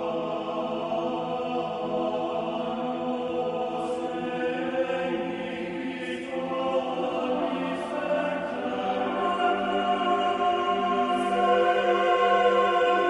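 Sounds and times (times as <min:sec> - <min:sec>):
slow choir-like chords: 0:00.0 - 0:13.0.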